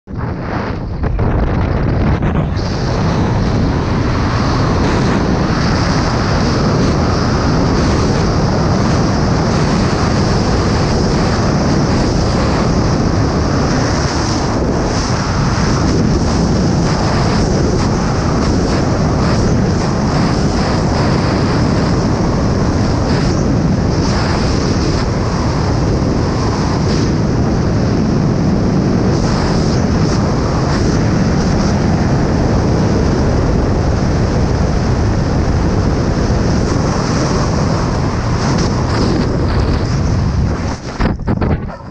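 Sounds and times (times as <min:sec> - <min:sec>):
wind noise buffeting microphone: 0:00.0 - 0:41.9.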